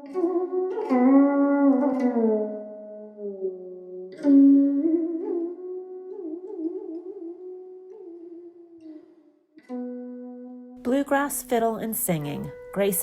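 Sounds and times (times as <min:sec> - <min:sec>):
plucked monochord melody: 0:00.0 - 0:13.0.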